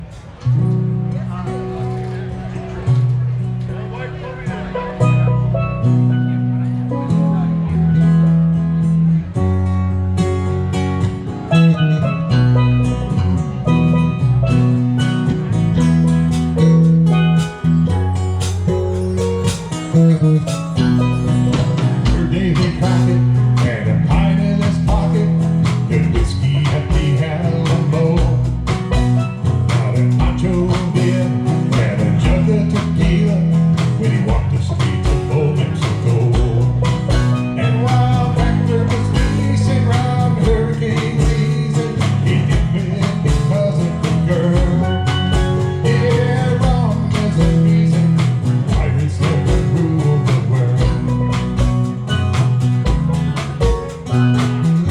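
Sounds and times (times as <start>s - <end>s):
live country band playing: 0.0s - 54.9s.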